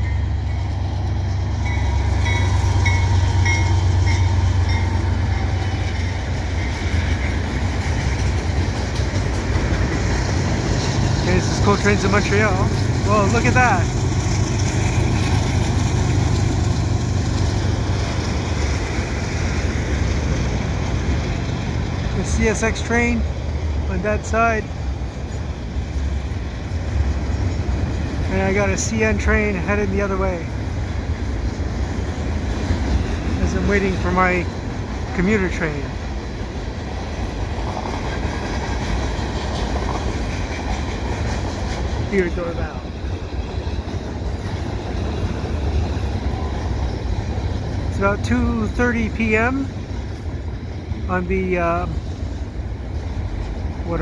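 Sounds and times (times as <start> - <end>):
train wheels rolling on track: 0.0 - 54.0.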